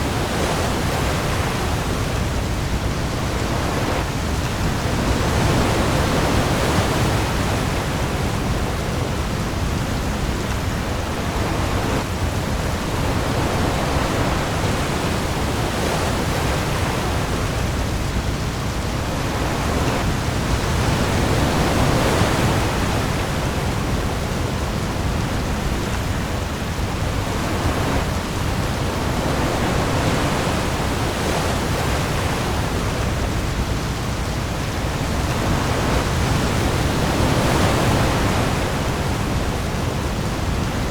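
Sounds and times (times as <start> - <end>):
heavy rain on sea: 0.0 - 40.9
waves: 0.0 - 40.9.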